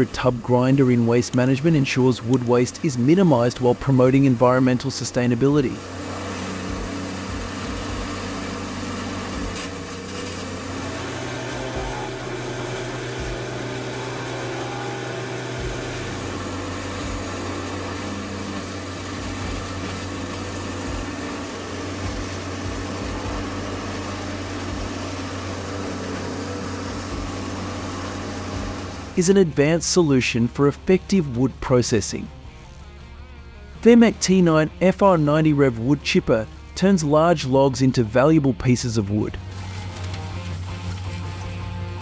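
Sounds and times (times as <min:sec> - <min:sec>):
grinding noise: 0:00.0 - 0:37.0
engine drone: 0:00.0 - 0:42.0.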